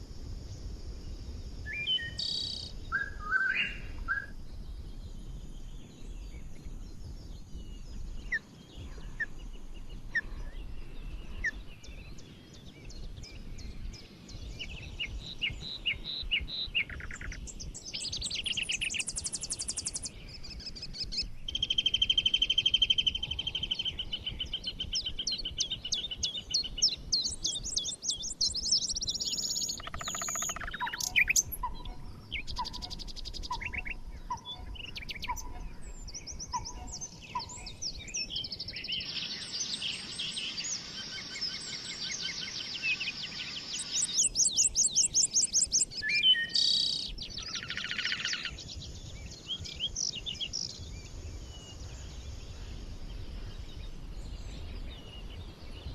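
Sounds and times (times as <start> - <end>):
songbirds chirping and whistling: 0.4 - 55.9.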